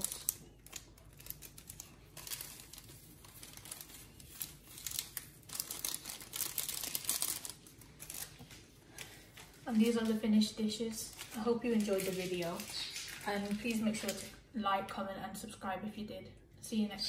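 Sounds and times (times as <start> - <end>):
plastic packets rustling: 0.0 - 14.4.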